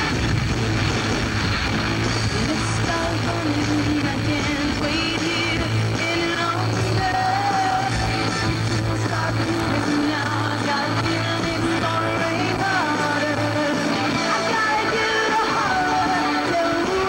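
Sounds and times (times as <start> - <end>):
electric guitar: 0.0 - 17.0
woman singing rock song: 2.1 - 17.0.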